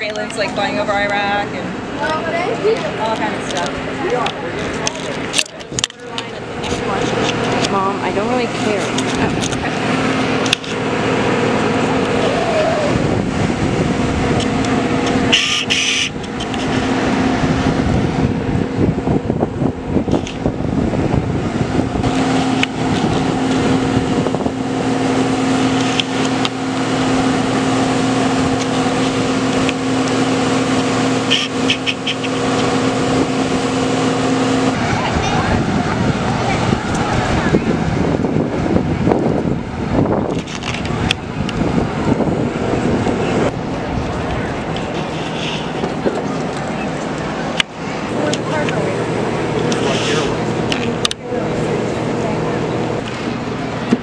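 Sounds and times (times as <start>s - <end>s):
crowd chatter: 0.0s - 20.6s, 22.0s - 54.0s
steady machine drone: 0.0s - 54.0s.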